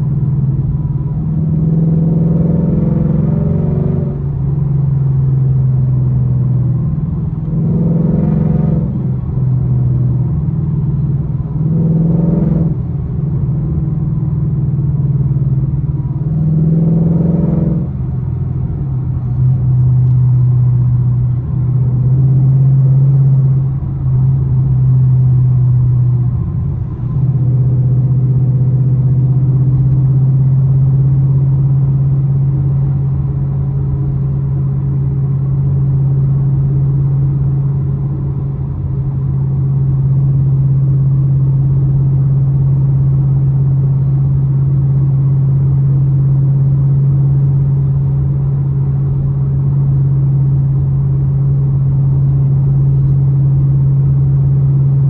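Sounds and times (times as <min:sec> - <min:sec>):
car engine with loud exhaust: 0:00.0 - 0:55.0.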